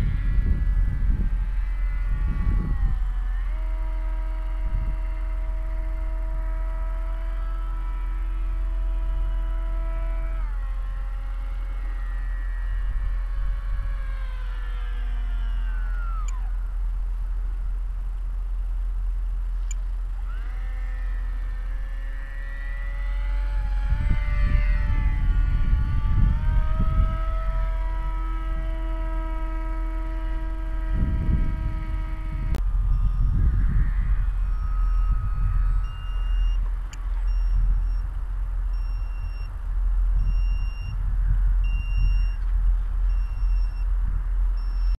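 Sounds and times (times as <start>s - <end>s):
model plane motor whining: 0.0s - 45.0s
wind rumbling on microphone: 0.0s - 45.0s.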